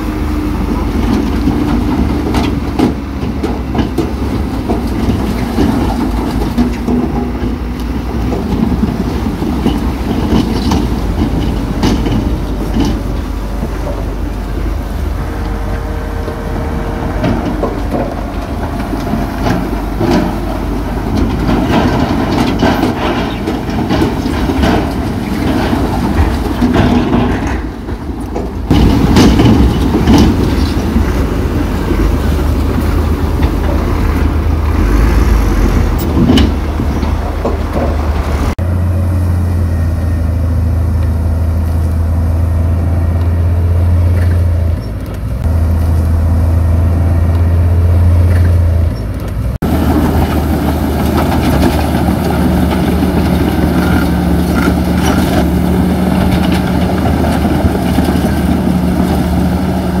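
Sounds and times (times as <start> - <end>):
diesel engine rumbling: 0.0 - 60.0
steel tracks clanking: 0.0 - 60.0.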